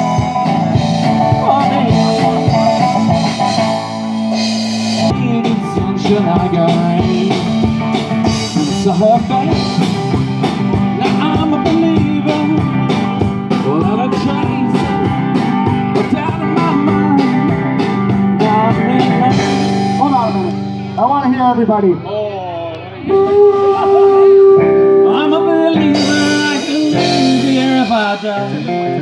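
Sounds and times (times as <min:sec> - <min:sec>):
drum-kit beat: 0:00.0 - 0:21.2, 0:23.1 - 0:29.0
electric guitar: 0:00.0 - 0:29.0.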